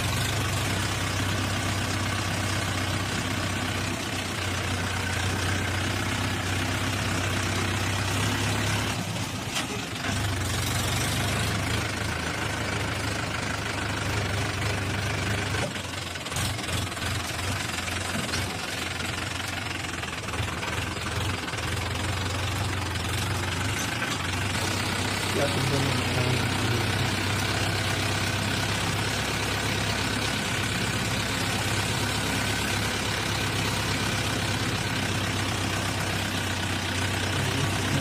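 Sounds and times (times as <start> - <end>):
tractor diesel engine droning: 0.0 - 38.0.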